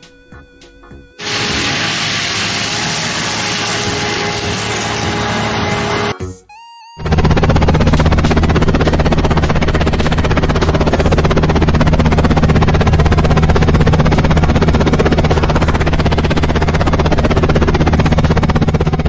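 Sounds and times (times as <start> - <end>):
heavy machine engine running: 1.2 - 6.2, 7.0 - 19.0.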